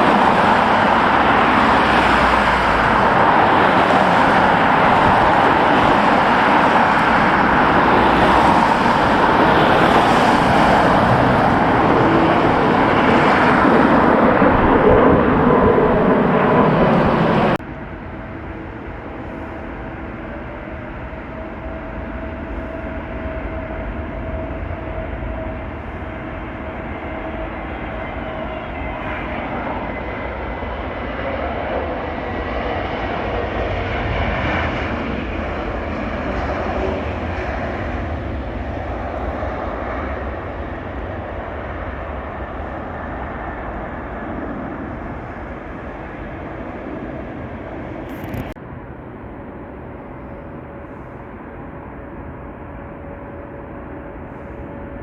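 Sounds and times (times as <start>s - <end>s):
whining engine tone: 0.0s - 31.2s, 35.5s - 48.6s
jet airliner engine rush: 0.0s - 55.0s.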